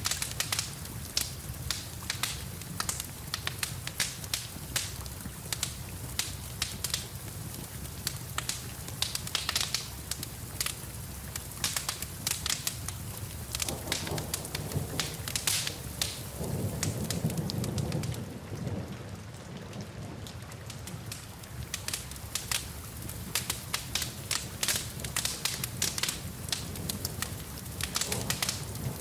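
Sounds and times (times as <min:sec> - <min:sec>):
wood fire crackling: 0:00.0 - 0:18.3, 0:20.3 - 0:29.0
rain hissing: 0:00.0 - 0:18.9, 0:20.6 - 0:29.0.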